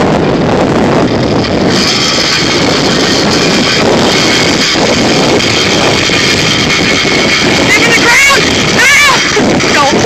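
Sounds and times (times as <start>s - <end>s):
motor vehicle running loudly: 0.0s - 10.0s.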